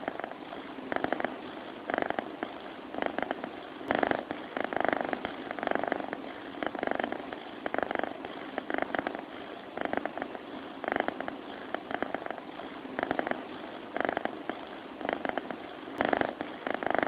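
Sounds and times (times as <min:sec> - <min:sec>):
cat rattling purr-like breaths: 0:00.0 - 0:17.0.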